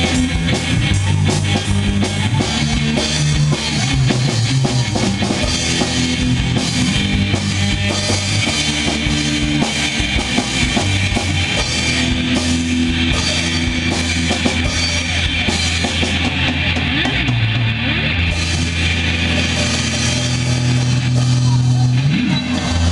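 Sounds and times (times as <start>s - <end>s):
bass notes: 0.0s - 22.9s
drum kit with cymbals: 0.0s - 22.9s
guitar: 0.0s - 22.9s.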